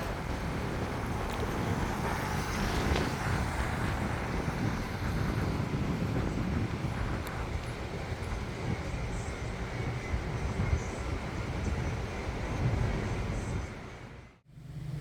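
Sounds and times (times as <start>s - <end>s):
vehicle road and engine rumble: 0.0s - 15.0s.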